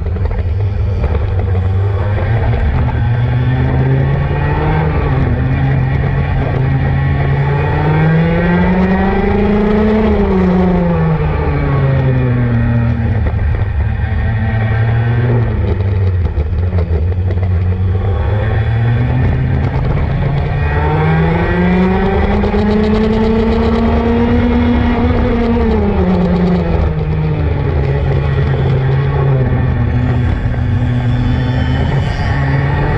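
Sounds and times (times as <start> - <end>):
racing kart engine: 0.0 - 32.9.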